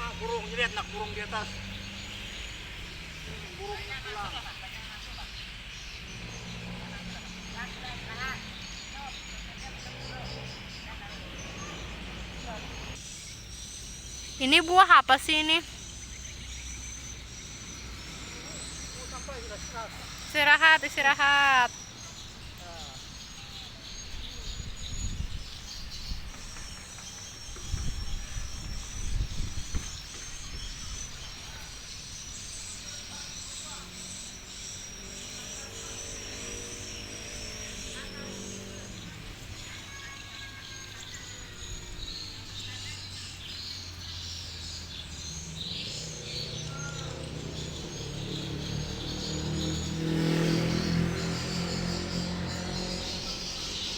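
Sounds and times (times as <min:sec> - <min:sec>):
birds twittering: 0:00.0 - 0:53.9
high insect drone: 0:00.0 - 0:53.9.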